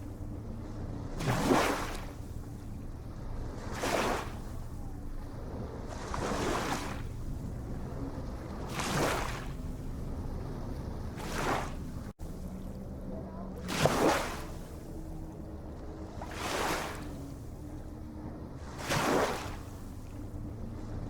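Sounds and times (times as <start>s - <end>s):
low rumble of sea: 0.0s - 21.0s
waves washing in: 0.0s - 21.0s.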